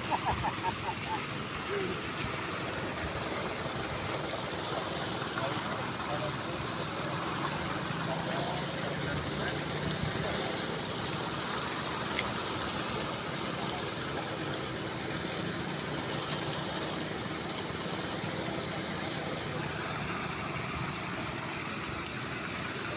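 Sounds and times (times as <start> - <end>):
small petrol engine running: 0.0 - 22.9.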